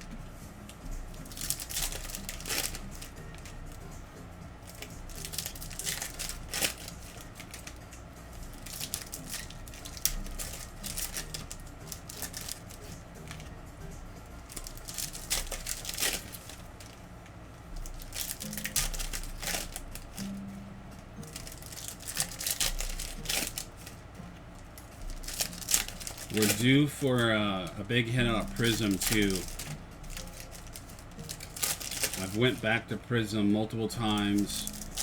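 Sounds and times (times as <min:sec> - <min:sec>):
handling of card packs: 0:00.0 - 0:35.0
foil wrappers crinkling and tearing: 0:01.1 - 0:03.9, 0:04.6 - 0:13.6, 0:14.4 - 0:17.0, 0:17.7 - 0:20.5, 0:21.2 - 0:35.0.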